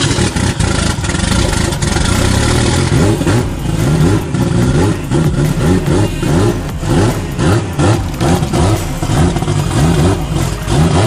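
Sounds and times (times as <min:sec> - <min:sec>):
car engine running: 0:00.0 - 0:11.0
engine pitch surging: 0:00.0 - 0:11.0.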